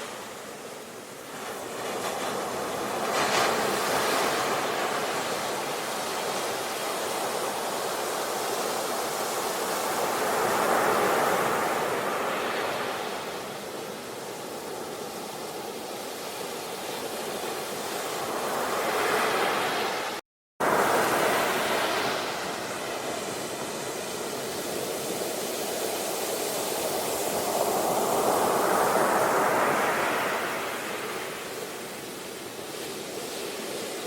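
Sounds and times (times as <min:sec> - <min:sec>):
ocean waves washing in: 0:00.0 - 0:34.0.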